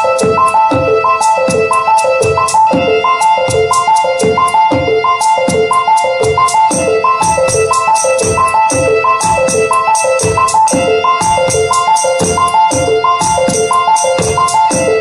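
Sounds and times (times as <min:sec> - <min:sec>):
fast hi-hat-like percussion: 0:00.0 - 0:15.0
steady high synth tone: 0:00.0 - 0:15.0.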